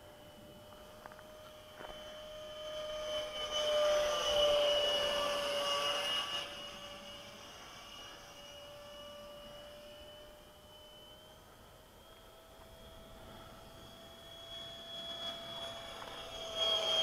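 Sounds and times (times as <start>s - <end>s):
model jet fan whining: 0.0s - 17.0s.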